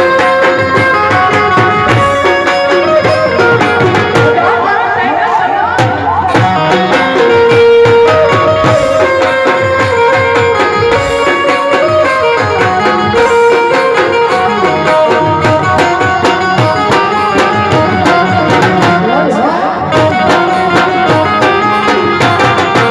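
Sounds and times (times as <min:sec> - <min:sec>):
barrel drums beating: 0:00.0 - 0:04.6, 0:05.8 - 0:22.9
harmonium melody: 0:00.0 - 0:22.9.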